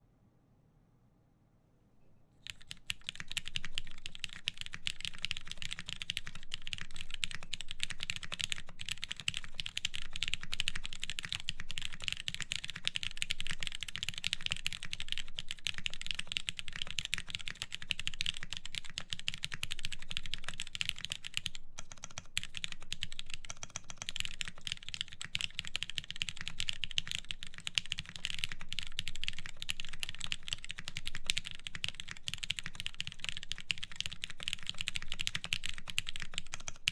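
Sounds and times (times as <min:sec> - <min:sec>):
typing on mechanical keyboard: 0:02.4 - 0:36.9.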